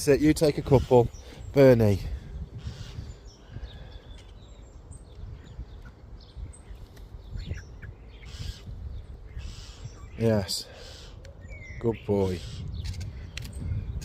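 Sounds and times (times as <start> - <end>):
starlings chirping: 0.0 - 14.0.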